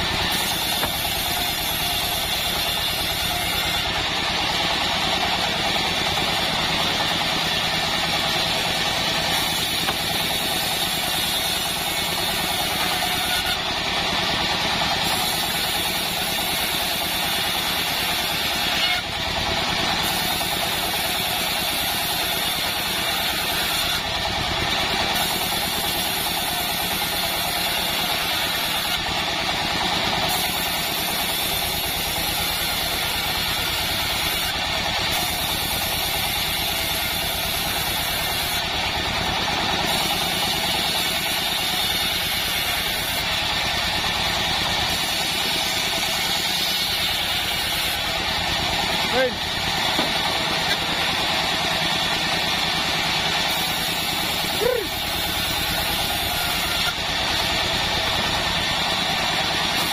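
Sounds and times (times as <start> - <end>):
band saw droning: 0.0 - 59.9.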